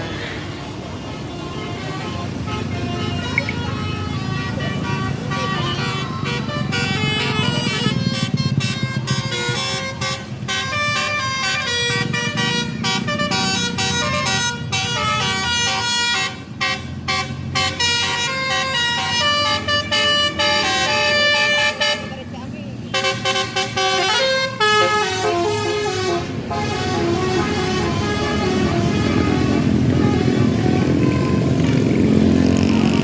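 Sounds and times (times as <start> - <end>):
low engine rumble: 0.0 - 33.0
multi-note bus horn melody: 0.0 - 33.0.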